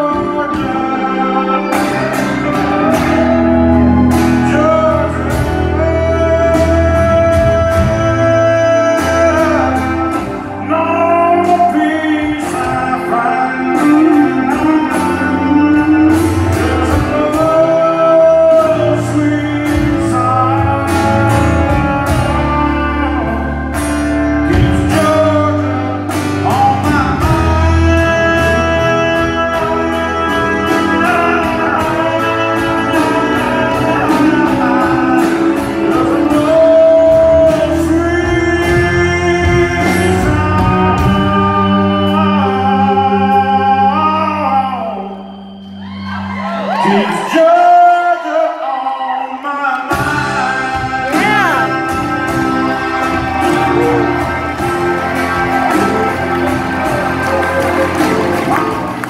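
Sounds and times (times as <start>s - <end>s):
drum kit beat: 0.0s - 42.8s, 49.9s - 59.0s
guitars: 0.0s - 59.0s
lead singer holding long notes: 0.0s - 59.0s.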